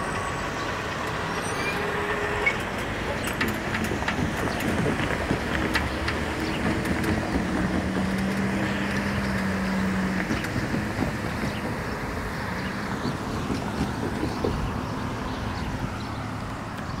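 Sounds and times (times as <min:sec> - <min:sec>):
cars driving over crossing: 0:00.0 - 0:17.0
car engine humming: 0:02.7 - 0:17.0.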